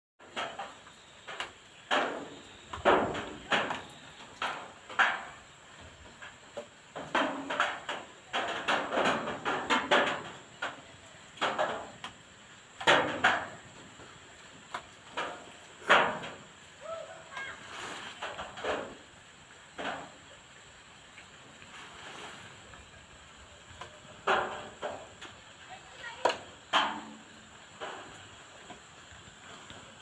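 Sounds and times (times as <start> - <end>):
faint steady hiss: 0.2 - 30.0.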